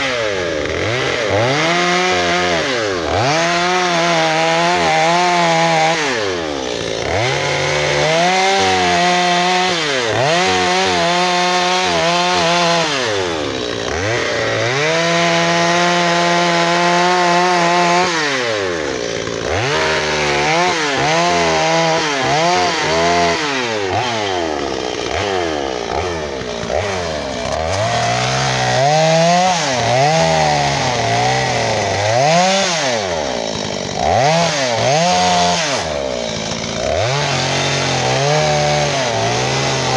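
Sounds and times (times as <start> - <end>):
chainsaw carving into wood: 0.0 - 39.9.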